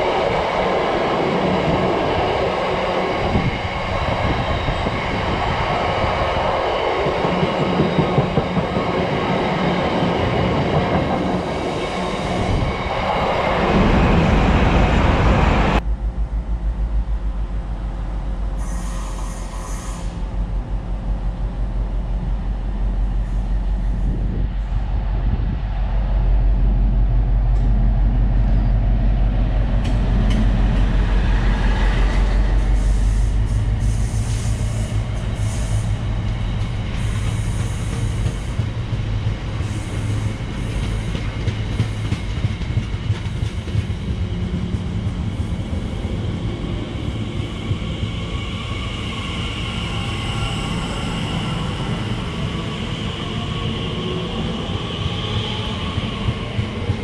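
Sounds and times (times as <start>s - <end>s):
train low drone: 0.0s - 57.0s
wheels rushing on rails: 0.0s - 57.0s.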